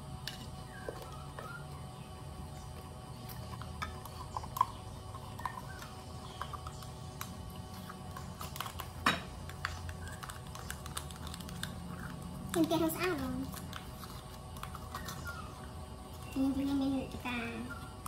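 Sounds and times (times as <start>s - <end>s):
metal spoon scraping plastic juicer: 3.2s - 17.8s.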